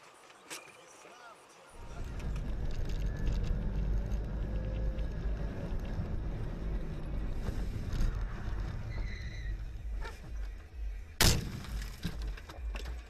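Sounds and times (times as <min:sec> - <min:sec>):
moving car rumble: 0:01.8 - 0:13.0.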